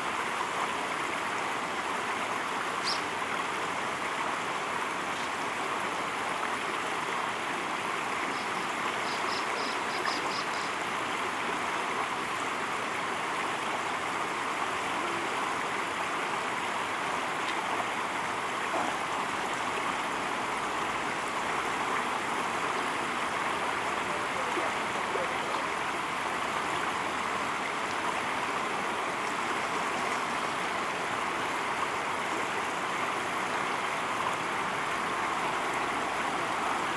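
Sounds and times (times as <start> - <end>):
river water running: 0.0 - 36.9.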